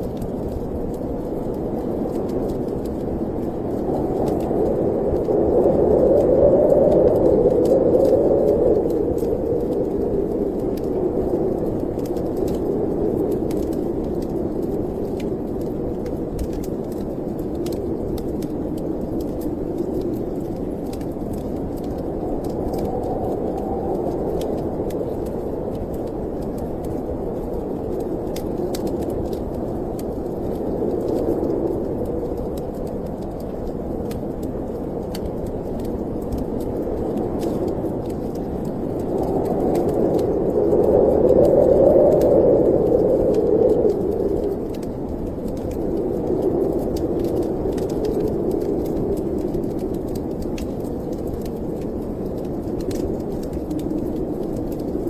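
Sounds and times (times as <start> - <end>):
storm wind rushing: 0.0 - 55.0
wood fire crackling: 0.0 - 55.0.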